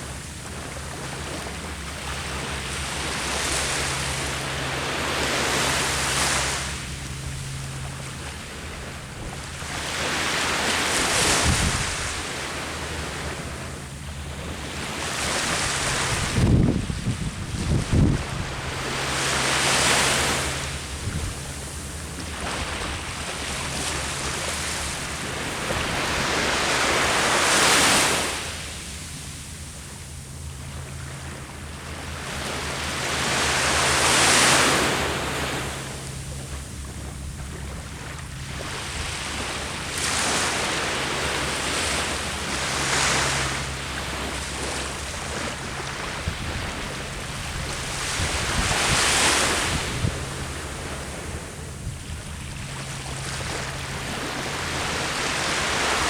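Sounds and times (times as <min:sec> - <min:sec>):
ocean waves breaking: 0:00.0 - 0:56.0
wind rumbling on microphone: 0:00.0 - 0:56.0.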